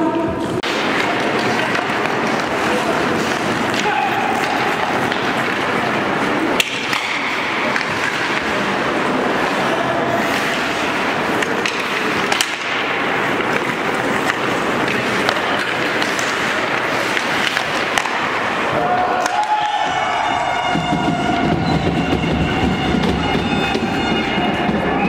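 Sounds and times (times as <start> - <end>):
sticks and puck clacking: 0.0 - 25.0
skates scraping on ice: 0.1 - 25.0
background din: 0.6 - 25.0.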